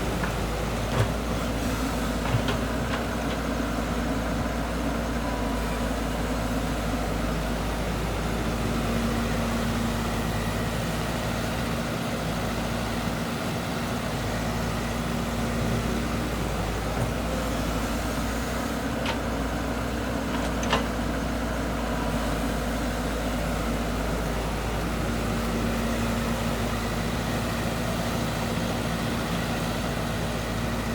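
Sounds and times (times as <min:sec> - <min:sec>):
heavy machinery diesel engine running: 0:00.0 - 0:30.9.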